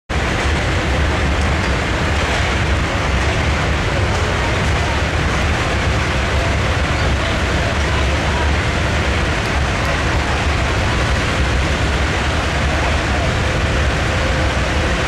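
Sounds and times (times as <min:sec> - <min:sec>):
tractor engine running under load: 0:00.1 - 0:15.0.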